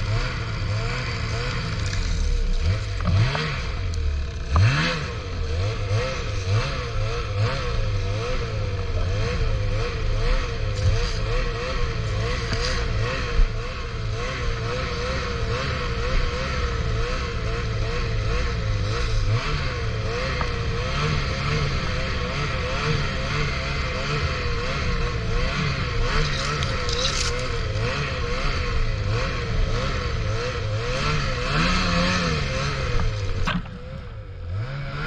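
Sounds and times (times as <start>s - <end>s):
snowmobile engine revving: 0.0s - 35.0s.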